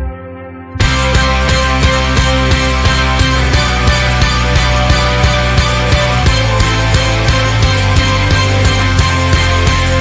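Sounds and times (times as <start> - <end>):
rock band playing instrumental: 0.8 - 10.0.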